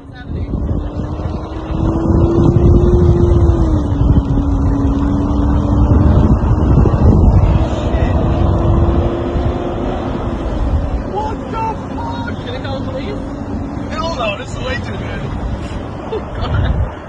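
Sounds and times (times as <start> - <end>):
droning engine: 0.0 - 16.9
vehicle road noise rumble: 0.0 - 17.0
wind buffeting microphone: 0.0 - 17.0.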